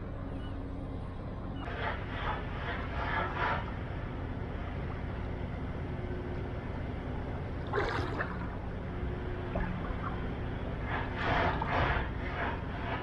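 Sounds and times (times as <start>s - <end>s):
ship engines rumbling: 0.0s - 13.0s.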